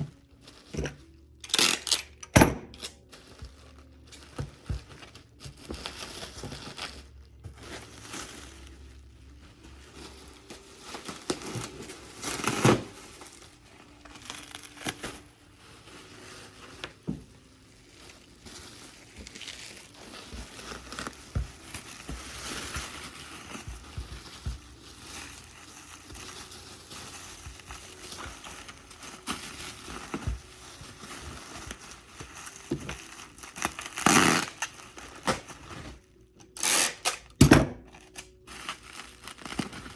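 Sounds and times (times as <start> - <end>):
packing material crumpling: 0.0 - 39.9.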